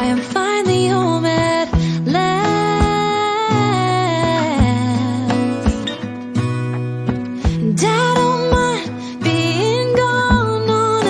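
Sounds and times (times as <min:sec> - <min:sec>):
music with hummed melody and beat: 0:00.0 - 0:11.0.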